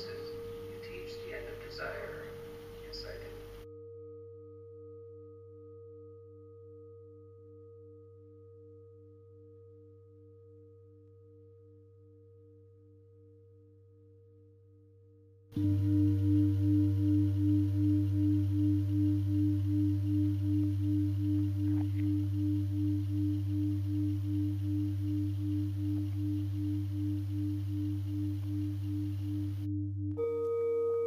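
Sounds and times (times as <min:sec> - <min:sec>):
singing bowl ringing: 0:00.0 - 0:14.4, 0:15.5 - 0:31.0.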